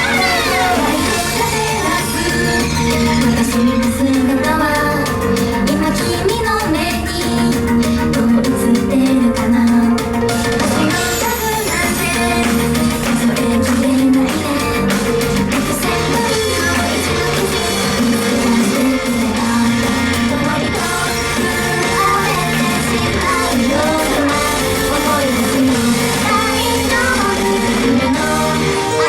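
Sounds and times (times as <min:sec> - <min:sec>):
group singing pop song: 0:00.0 - 0:29.0
rock backing music: 0:00.0 - 0:29.0.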